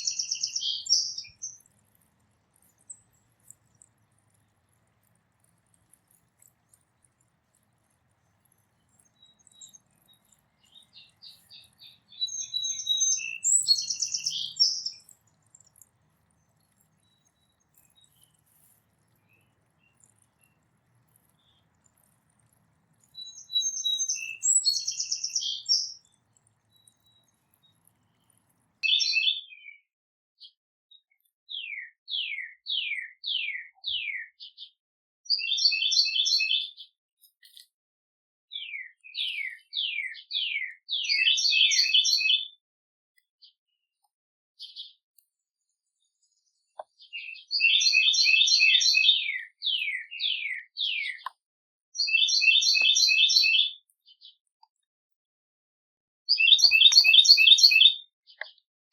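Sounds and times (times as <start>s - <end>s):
songbirds singing with trills: 0.0s - 29.8s, 31.5s - 34.2s, 35.3s - 37.6s, 38.5s - 42.6s, 45.9s - 51.4s, 52.0s - 54.4s, 56.3s - 58.6s.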